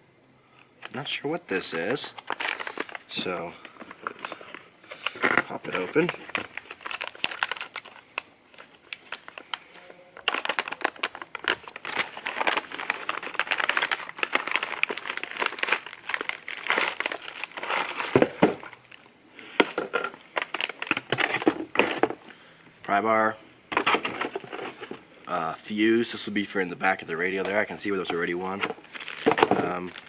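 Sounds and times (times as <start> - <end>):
plastic packaging crinkling: 0.8 - 22.4, 23.7 - 25.4, 26.8 - 30.0.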